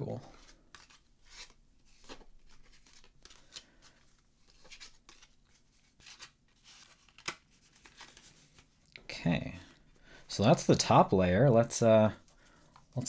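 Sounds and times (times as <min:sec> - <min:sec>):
plastic sleeves rustling: 0:00.1 - 0:11.3.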